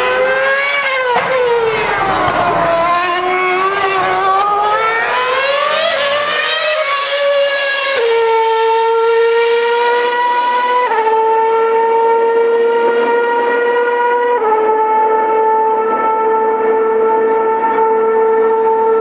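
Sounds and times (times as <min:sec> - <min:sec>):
racing car engine: 0:00.0 - 0:19.0.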